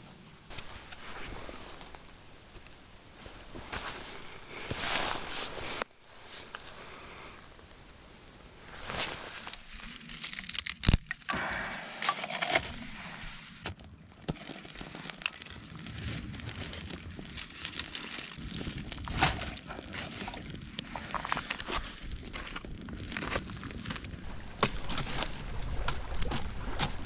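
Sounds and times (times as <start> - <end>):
rustling and crinkling: 0.0 - 27.0.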